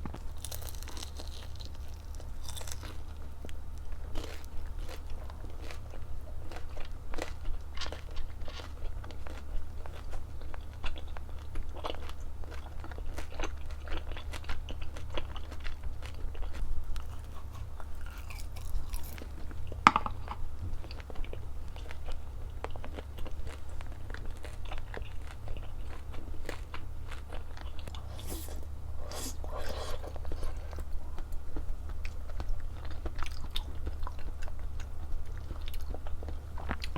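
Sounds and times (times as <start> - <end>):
chewing and crunching food: 0.0 - 36.9
steady low hum: 0.0 - 36.9.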